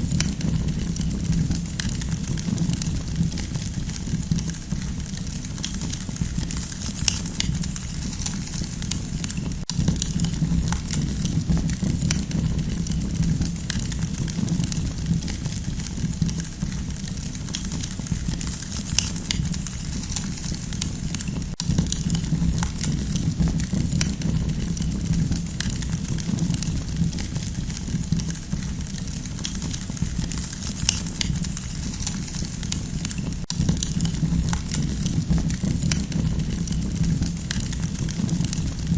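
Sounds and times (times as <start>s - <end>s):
campfire crackling and popping: 0.0s - 38.9s
low fire rumble: 0.0s - 38.9s.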